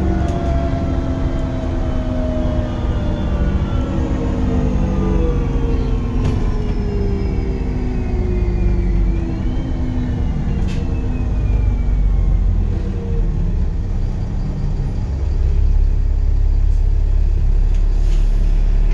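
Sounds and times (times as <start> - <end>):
bus diesel engine rumble: 0.0 - 18.9.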